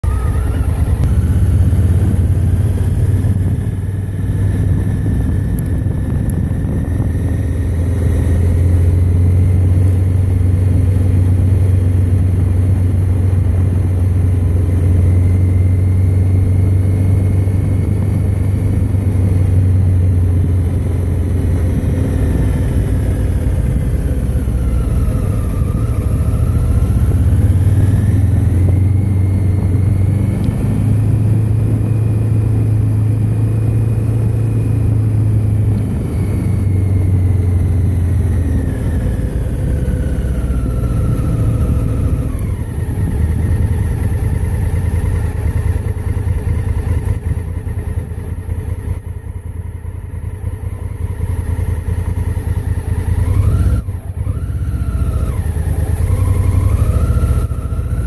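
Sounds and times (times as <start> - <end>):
high engine whine: 0.0 - 58.0
vehicle engine running: 0.0 - 58.0.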